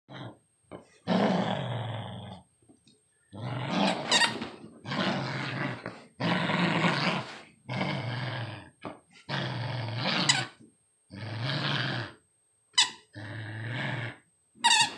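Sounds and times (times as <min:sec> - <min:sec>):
puppy growling in play: 0:00.1 - 0:02.5, 0:03.2 - 0:12.2, 0:12.8 - 0:14.9.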